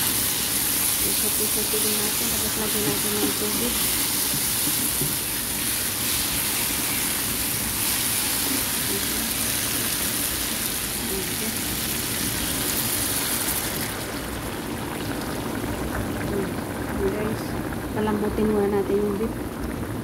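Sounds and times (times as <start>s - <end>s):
meat and mushrooms sizzling in pan: 0.0s - 18.5s.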